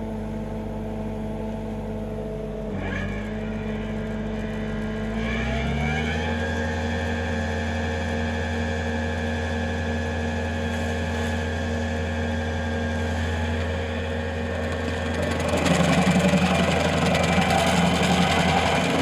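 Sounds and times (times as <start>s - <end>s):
stump grinder engine running: 0.0s - 19.0s.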